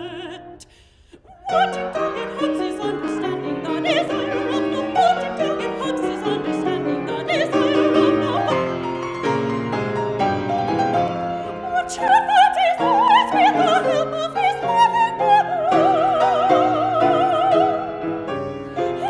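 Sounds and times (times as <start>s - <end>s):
soprano singing: 0.0s - 19.0s
piano accompaniment: 1.4s - 19.0s.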